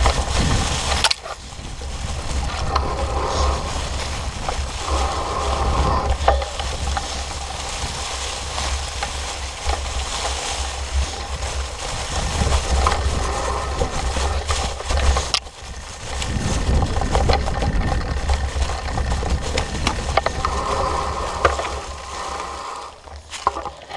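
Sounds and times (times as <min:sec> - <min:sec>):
bike tyres crackling over dry leaves: 0:00.0 - 0:23.9
wind and vibration rumble: 0:00.0 - 0:23.9.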